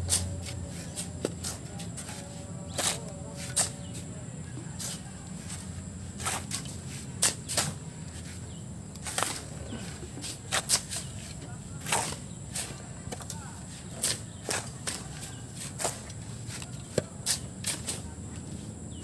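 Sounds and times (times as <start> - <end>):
steady low rumble: 0.0 - 16.5
shovels scraping sand: 0.0 - 18.8.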